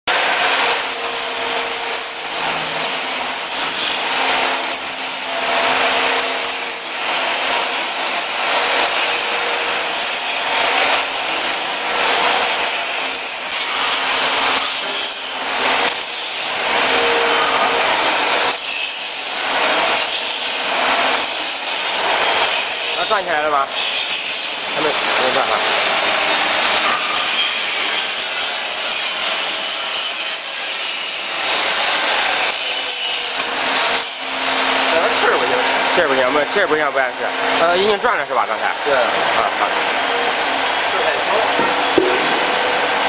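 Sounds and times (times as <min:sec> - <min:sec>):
machines rasping and whining: 0:00.1 - 0:43.0.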